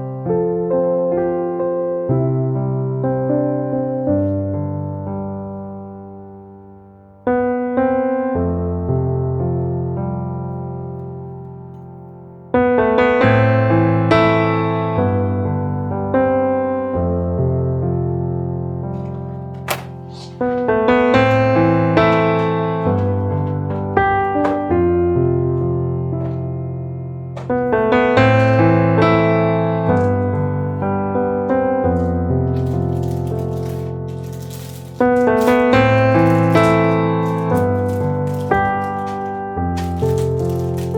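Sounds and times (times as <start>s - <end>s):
slow gentle piano music: 0.0s - 40.9s.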